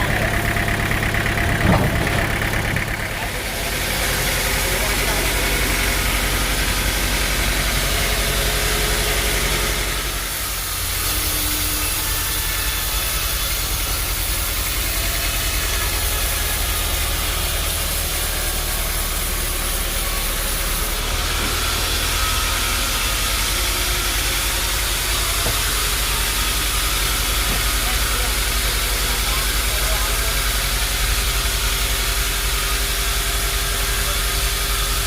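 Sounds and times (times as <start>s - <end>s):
sawmill machinery hum: 0.0s - 35.0s.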